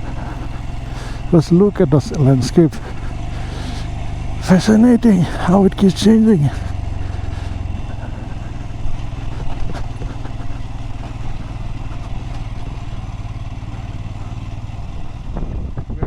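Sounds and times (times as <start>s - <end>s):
motorcycle engine cruising: 0.0s - 16.0s
road and air noise: 0.0s - 16.0s.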